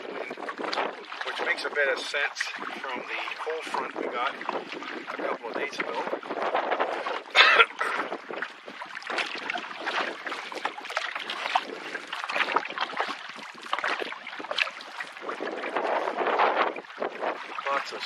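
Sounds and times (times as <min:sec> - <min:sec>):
paddle strokes: 0:00.0 - 0:18.0
water lapping against hull: 0:00.0 - 0:18.0
wind on microphone: 0:00.0 - 0:18.0.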